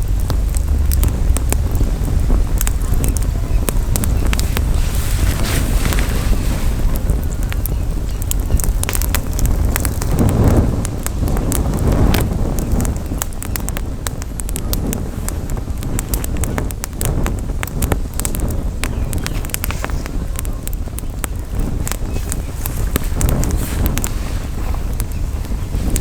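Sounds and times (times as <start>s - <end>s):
campfire crackling and popping: 0.0s - 26.0s
wind rumble on microphone: 0.0s - 26.0s.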